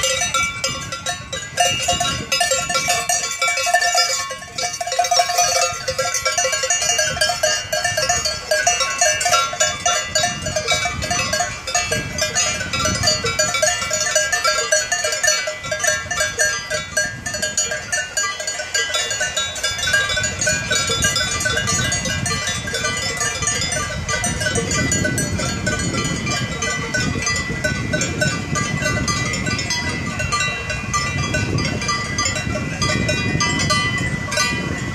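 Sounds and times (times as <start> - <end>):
cowbells clanging: 0.0 - 34.9.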